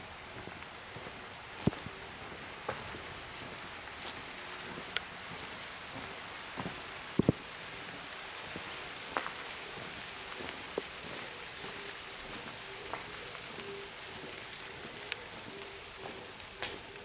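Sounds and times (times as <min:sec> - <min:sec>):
street ambience hiss: 0:00.0 - 0:17.0.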